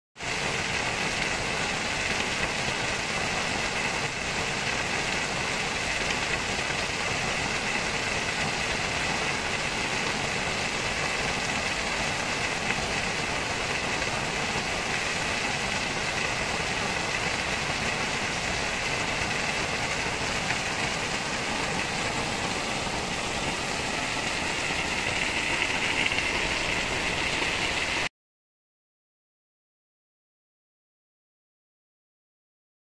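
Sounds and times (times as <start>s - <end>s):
waterfall rushing over boulders: 0.2s - 28.1s.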